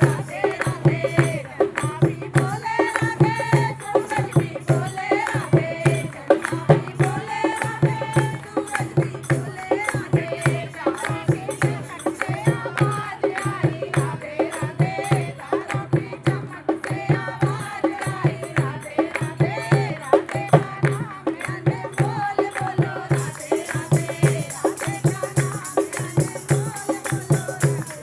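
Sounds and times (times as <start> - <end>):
hand drum beat: 0.0 - 28.0
person singing a melody: 0.0 - 28.0.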